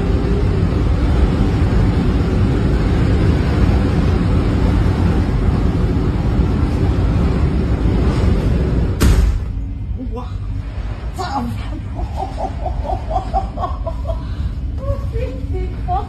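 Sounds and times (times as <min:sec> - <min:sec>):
ship and sea noise: 0:00.0 - 0:16.0.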